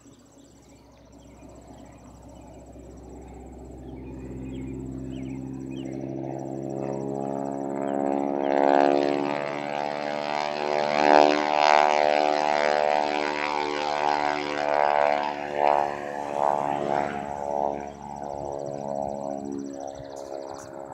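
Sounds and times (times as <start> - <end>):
airplane flying low past: 0.0 - 20.9.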